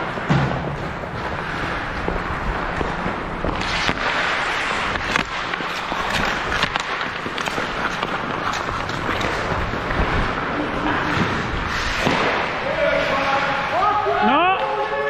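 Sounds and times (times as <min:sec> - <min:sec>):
ice skates scraping on ice: 0:00.0 - 0:14.2
hockey sticks and puck clacking: 0:00.0 - 0:15.0.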